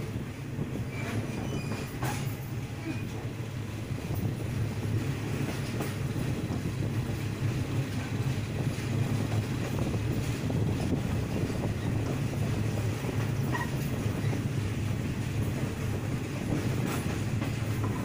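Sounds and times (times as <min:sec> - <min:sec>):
train wheels rumbling: 0:00.0 - 0:18.0
wind on microphone: 0:00.0 - 0:18.0.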